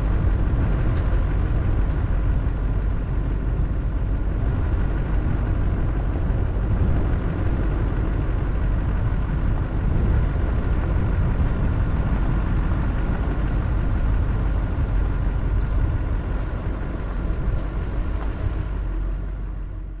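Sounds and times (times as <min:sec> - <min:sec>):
vehicle driving on road: 0:00.0 - 0:20.0.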